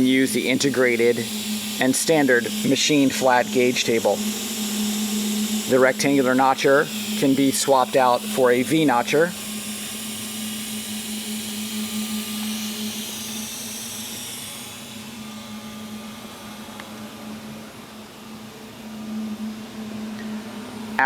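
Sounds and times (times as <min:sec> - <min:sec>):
hydraulic power unit humming: 0:00.0 - 0:21.0.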